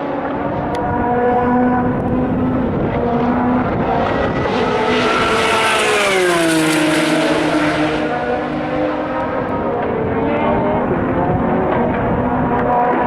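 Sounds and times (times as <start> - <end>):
hum of other cars running: 0.0 - 13.0
race car passing at speed: 0.0 - 13.0.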